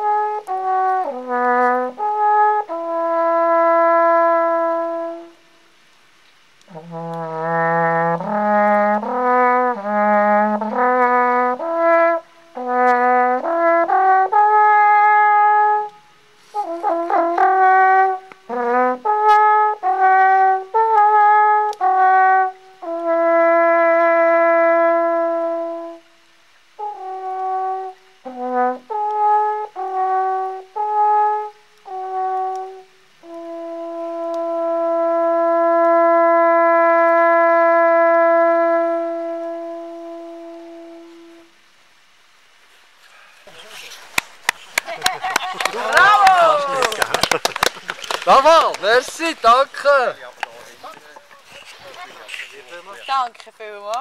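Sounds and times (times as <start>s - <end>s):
alphorn melody: 0.0s - 5.5s, 6.6s - 26.1s, 26.8s - 41.6s, 43.5s - 54.0s.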